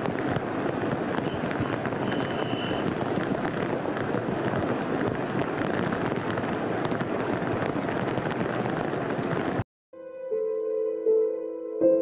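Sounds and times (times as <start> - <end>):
torrential rain rushing: 0.0 - 9.6.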